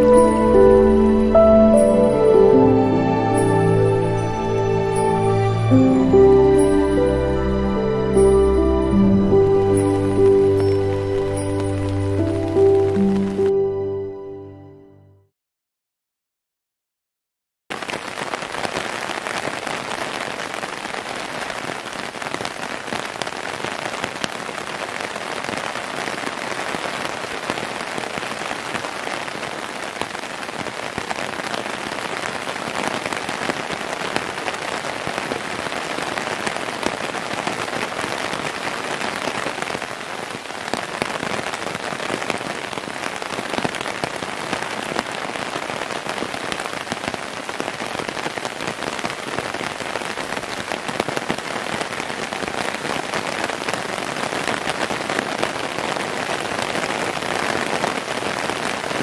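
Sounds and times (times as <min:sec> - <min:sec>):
heavy rain falling: 0:00.0 - 0:14.1, 0:17.7 - 0:59.0.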